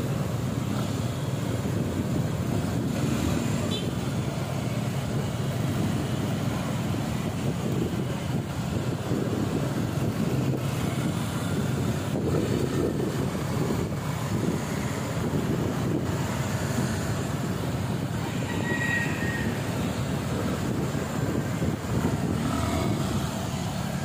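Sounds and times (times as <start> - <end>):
vehicle rumble: 0.0 - 24.0
wind noise on microphone: 0.0 - 24.0.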